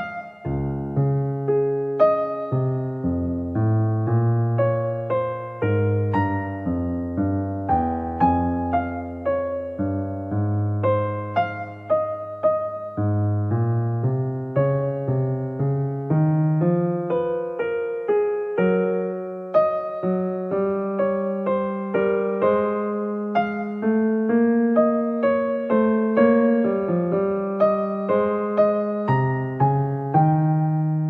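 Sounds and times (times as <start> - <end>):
soft slow piano music: 0.0 - 31.0.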